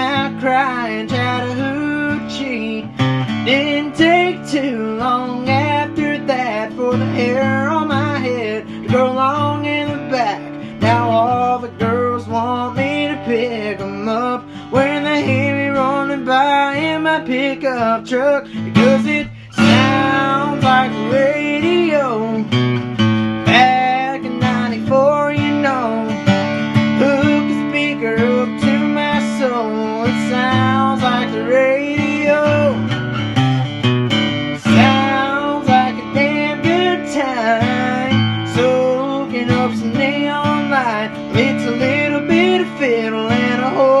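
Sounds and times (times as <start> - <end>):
person singing: 0.0 - 33.3, 34.3 - 44.0
strummed acoustic guitar: 0.0 - 44.0.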